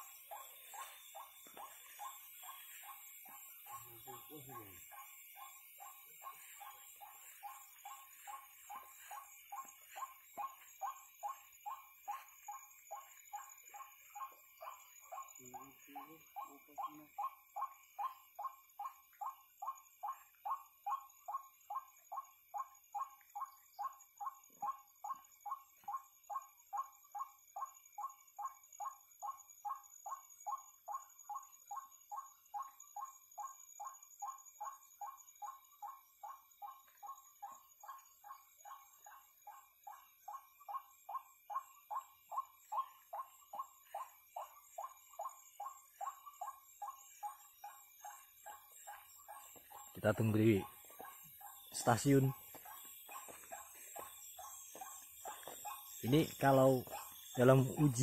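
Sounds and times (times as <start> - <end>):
night animal calling: 0.0 - 58.0.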